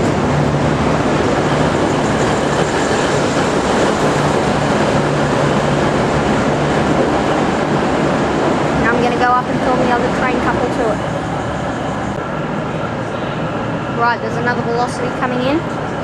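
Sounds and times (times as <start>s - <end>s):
low engine drone: 0.0s - 16.0s
train noise rushing: 0.0s - 16.0s.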